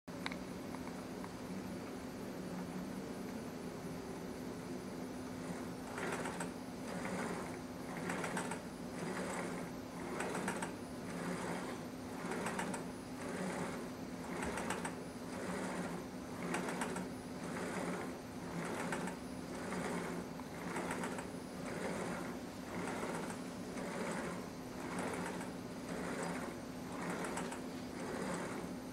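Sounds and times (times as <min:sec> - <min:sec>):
steady low hum: 0:00.1 - 0:28.9.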